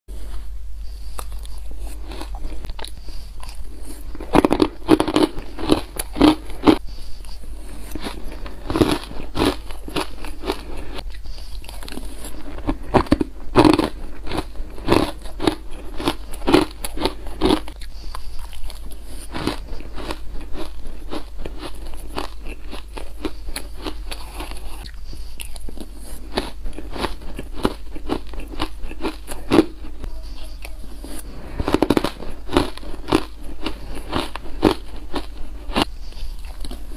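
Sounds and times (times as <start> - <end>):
crunching ice in mouth: 1.4 - 6.8, 7.9 - 30.0, 31.5 - 36.9.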